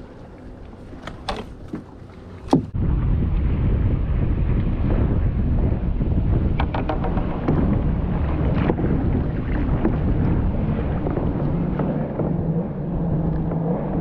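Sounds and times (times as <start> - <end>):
wind rumbling on microphone: 0.0 - 14.0
steady low drone: 2.7 - 14.0.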